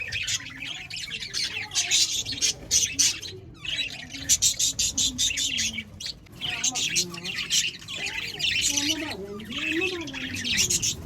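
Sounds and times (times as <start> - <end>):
budgerigars chattering and squawking: 0.0 - 11.0.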